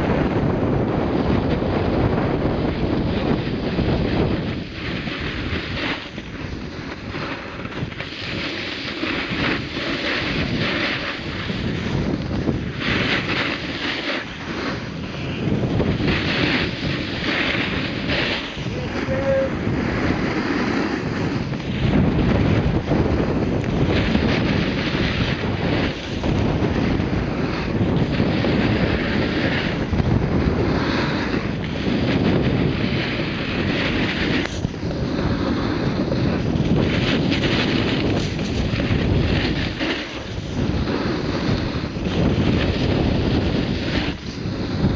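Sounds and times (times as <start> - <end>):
wind buffeting microphone: 0.0 - 44.9
edges scraping over snow: 2.6 - 44.9.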